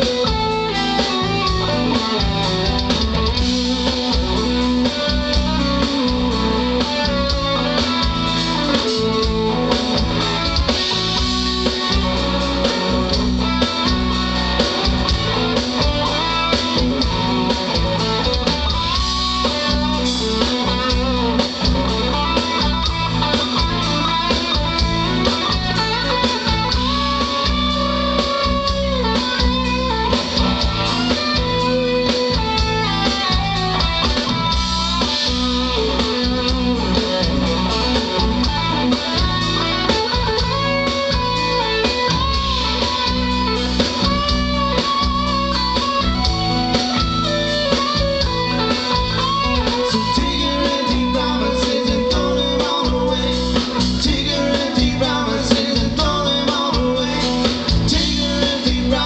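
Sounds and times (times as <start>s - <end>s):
bass guitar: 0.0s - 59.0s
electric guitar lead: 0.0s - 59.0s
steady drum beat: 0.0s - 59.0s.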